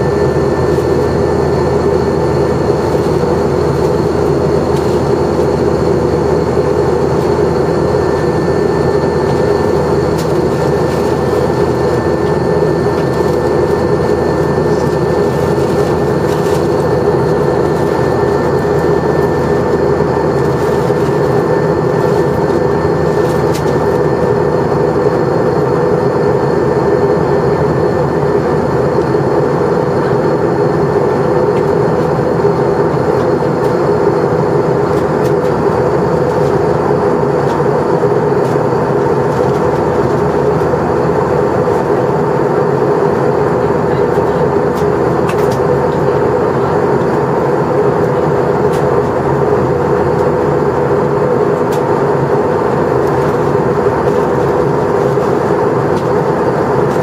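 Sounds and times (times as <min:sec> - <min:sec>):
airliner cabin engine noise: 0:00.0 - 0:57.0.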